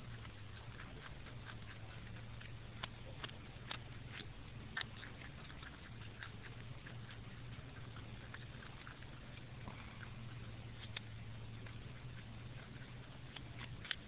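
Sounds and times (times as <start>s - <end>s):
groundhog crunching carrot: 0.0s - 14.0s.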